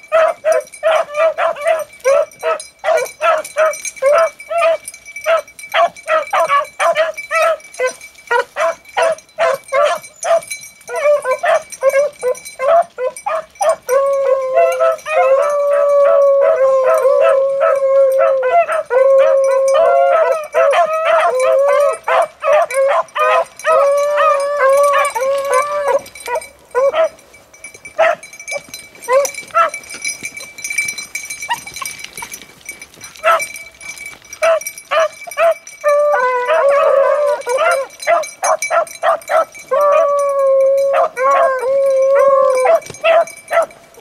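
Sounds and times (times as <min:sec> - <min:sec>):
dogs baying and barking: 0:00.0 - 0:44.0.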